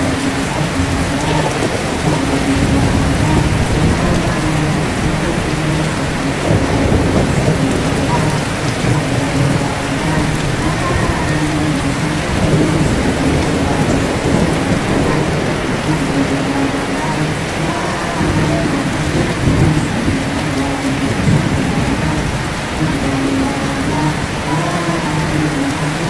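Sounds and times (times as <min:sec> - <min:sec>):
heavy rain: 0:00.0 - 0:26.0
low thunder rumbling: 0:00.0 - 0:26.0.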